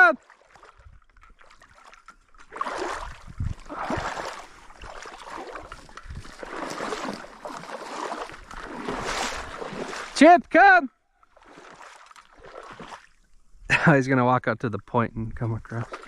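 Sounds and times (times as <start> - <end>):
water splashing and sloshing: 0.0 - 13.6, 15.5 - 16.0.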